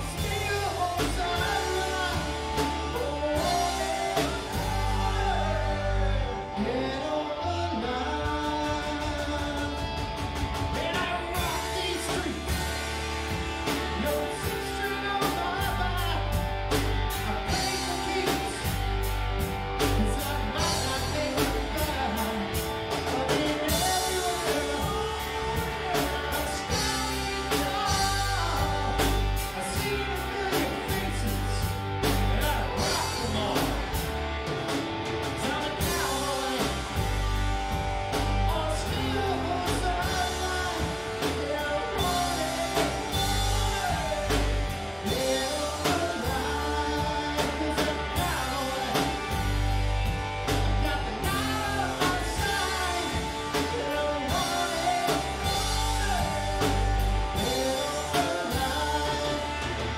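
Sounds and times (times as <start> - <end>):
person singing: 0.0 - 12.7, 13.6 - 19.0, 19.8 - 34.0, 35.3 - 37.3, 38.1 - 49.7, 50.5 - 59.9
rock band playing live: 0.0 - 59.9.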